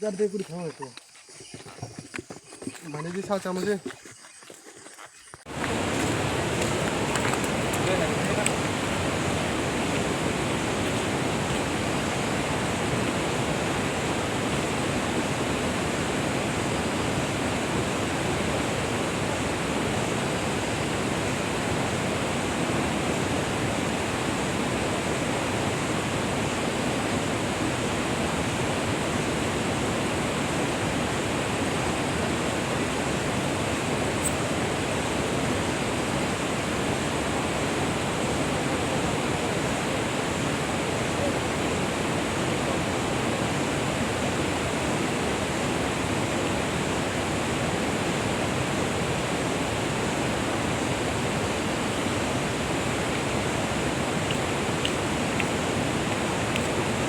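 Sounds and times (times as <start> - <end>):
stream water rushing: 3.2 - 57.0.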